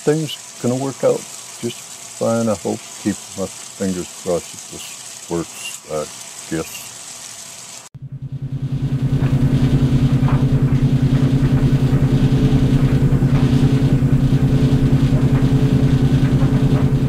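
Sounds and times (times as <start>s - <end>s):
clothes dryer humming: 0.0s - 17.0s.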